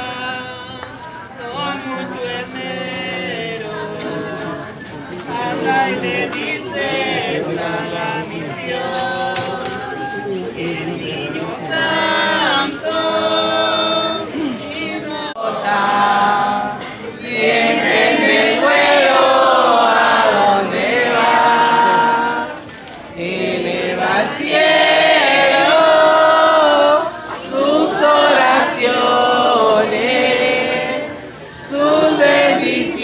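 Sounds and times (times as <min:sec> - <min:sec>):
group singing a hymn: 0:00.0 - 0:33.0.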